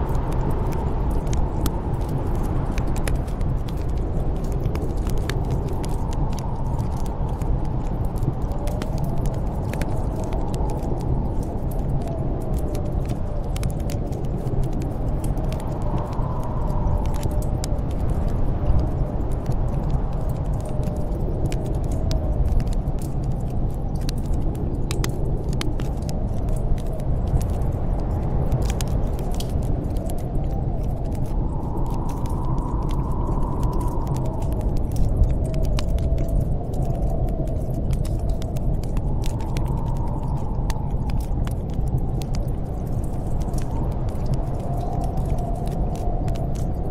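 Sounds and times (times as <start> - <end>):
howling storm wind: 0.0 - 46.9
wood fire crackling: 0.0 - 46.9.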